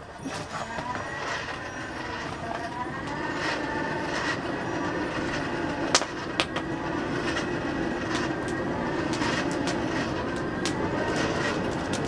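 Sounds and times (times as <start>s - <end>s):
hand-cranked blower whirring: 0.0s - 12.0s.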